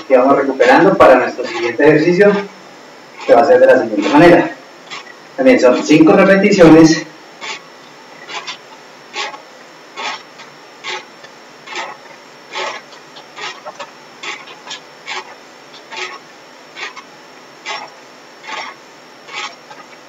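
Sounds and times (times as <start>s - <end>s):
rasping rub of bicycle trainer: 0.0s - 20.0s.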